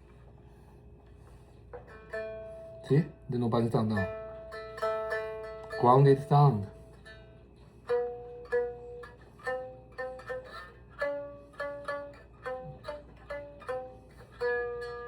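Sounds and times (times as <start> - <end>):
plucked lute strings: 1.7 - 15.0.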